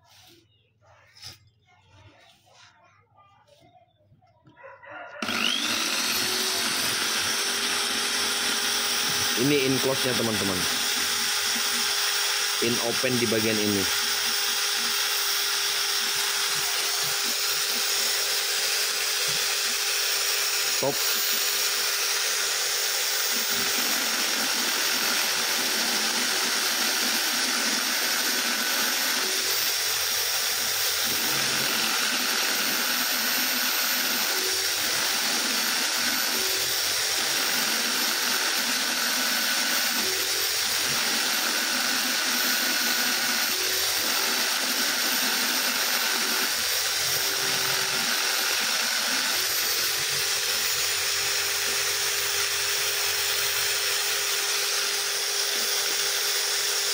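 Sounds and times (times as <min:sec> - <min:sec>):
electric drill grinding metal: 0:05.1 - 0:56.9.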